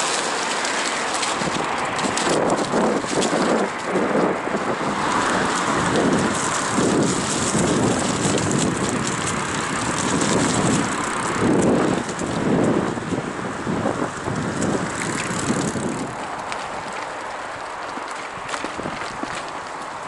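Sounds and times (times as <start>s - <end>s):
bicycle tyres rolling over dry leaves: 0.0s - 20.0s.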